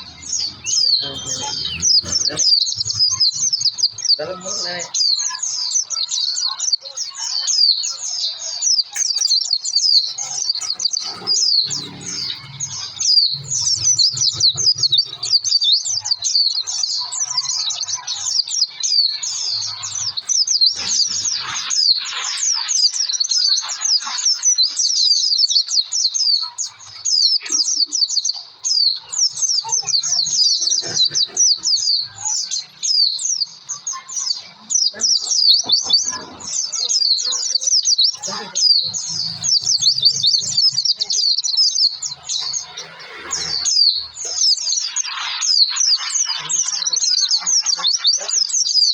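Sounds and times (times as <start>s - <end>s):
bird chirping and twittering: 0.0s - 48.9s.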